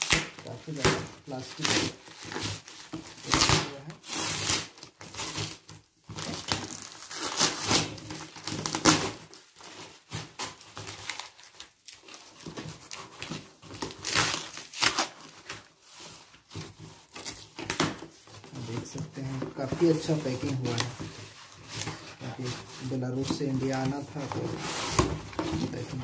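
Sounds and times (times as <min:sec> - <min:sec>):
cardboard flaps tearing: 0:00.0 - 0:26.0
plastic wrapping crinkling: 0:00.0 - 0:26.0.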